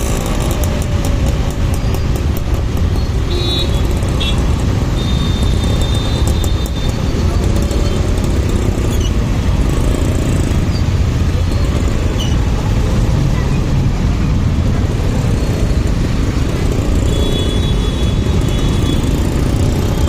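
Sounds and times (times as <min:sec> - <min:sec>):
motorcycle riding rumble: 0:00.0 - 0:20.0.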